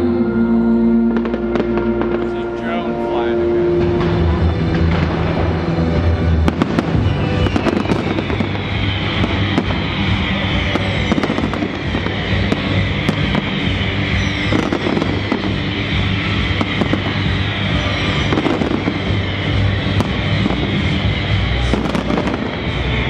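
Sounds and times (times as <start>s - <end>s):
music over loudspeakers: 0.0s - 23.0s
fireworks bangs: 1.1s - 23.0s
crackle of fireworks stars: 4.0s - 23.0s.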